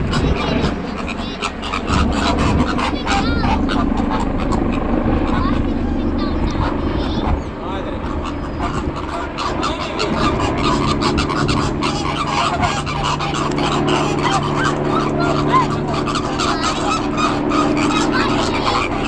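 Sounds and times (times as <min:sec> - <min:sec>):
flamingos honking: 0:00.0 - 0:19.0
steady low hum: 0:00.0 - 0:19.0.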